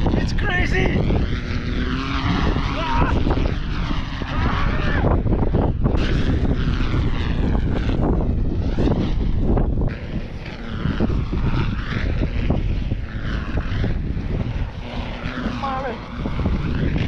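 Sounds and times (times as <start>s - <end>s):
power kite whooshing: 0.0s - 17.0s
wind buffeting microphone: 0.0s - 17.0s.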